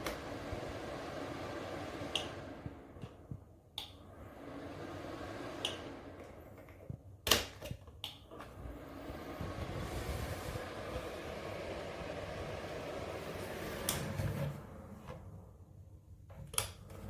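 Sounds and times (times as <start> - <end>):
heater fan running: 0.0 - 6.6, 8.3 - 15.7.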